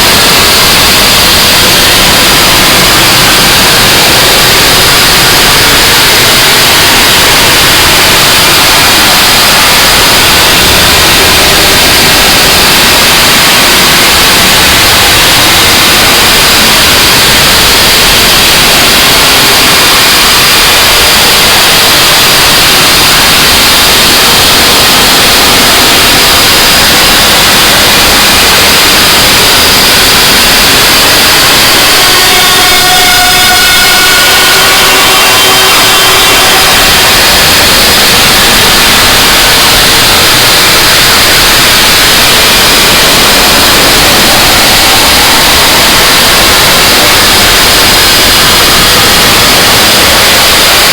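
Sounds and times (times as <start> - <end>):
distorted static hiss: 0.0 - 50.9.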